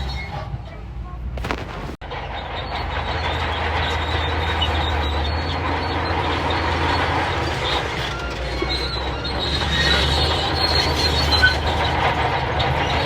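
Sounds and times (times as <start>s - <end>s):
bulldozer diesel engine: 0.0s - 13.0s
steel tracks clattering: 2.0s - 13.0s.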